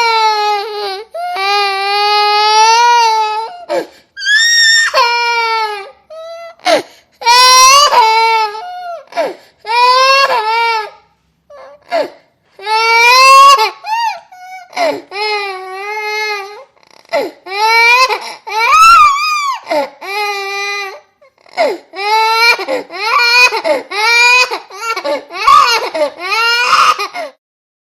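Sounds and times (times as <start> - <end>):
pitched-down baby crying: 0.0 - 27.4.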